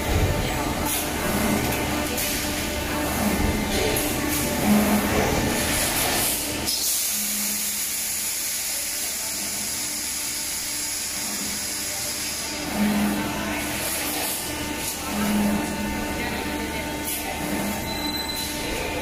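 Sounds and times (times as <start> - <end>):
packaging machine hissing: 0.1 - 16.3.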